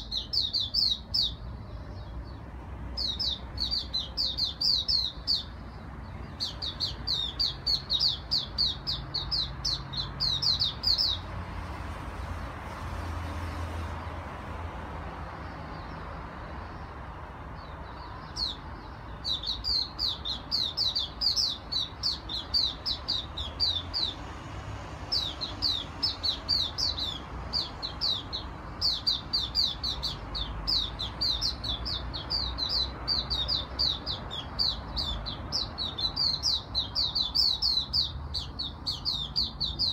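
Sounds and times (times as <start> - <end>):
songbird singing rapid notes: 0.0 - 11.4, 15.3 - 39.9.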